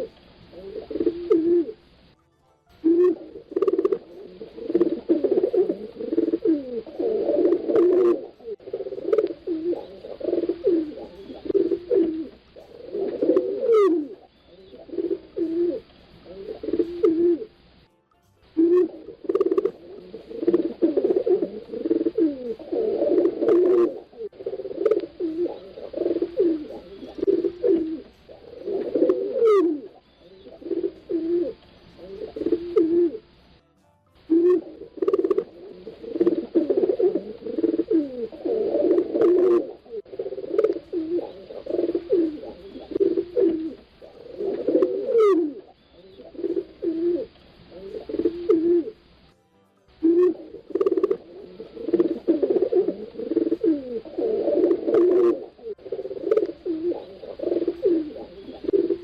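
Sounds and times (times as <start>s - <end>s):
pigeons cooing: 0.0s - 2.0s, 2.8s - 17.6s, 18.6s - 33.4s, 34.3s - 49.2s, 50.0s - 59.0s.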